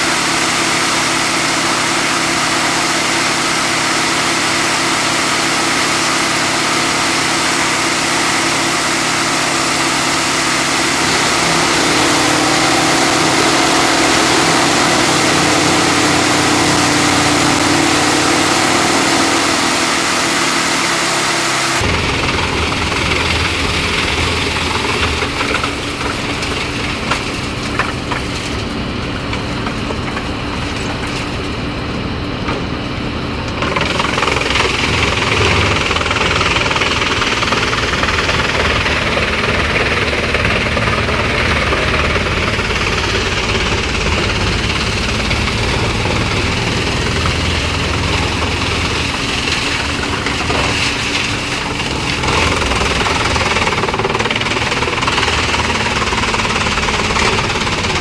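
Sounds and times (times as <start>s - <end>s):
wood chipper running: 0.0s - 58.0s.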